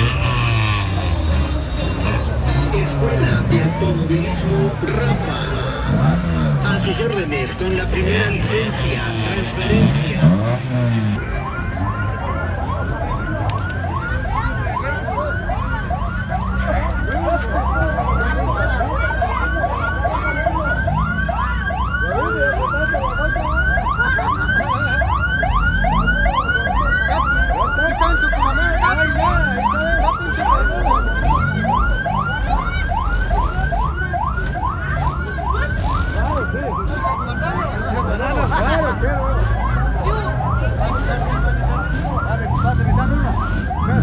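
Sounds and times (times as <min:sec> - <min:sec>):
electronic siren yelping: 0:04.4 - 0:44.0.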